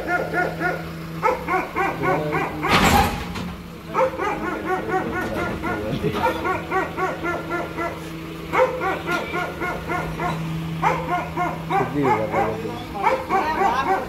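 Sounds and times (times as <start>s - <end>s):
dogs barking and yipping: 0.0s - 14.0s.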